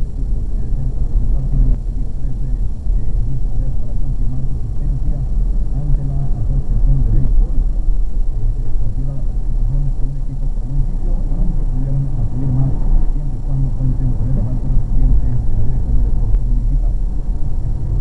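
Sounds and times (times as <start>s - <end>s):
car engine rumble: 0.0s - 18.0s
muffled low voice: 0.0s - 18.0s
road noise: 0.0s - 18.0s.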